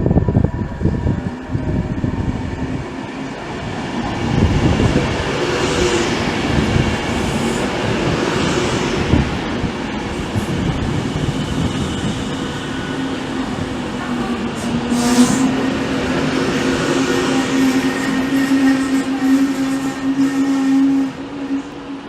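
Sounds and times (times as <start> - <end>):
train rumbling on tracks: 0.0 - 22.0.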